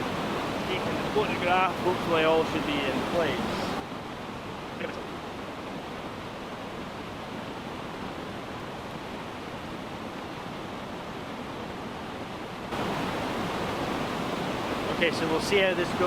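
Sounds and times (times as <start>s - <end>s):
waterfall rushing: 0.0s - 11.3s, 12.0s - 16.0s.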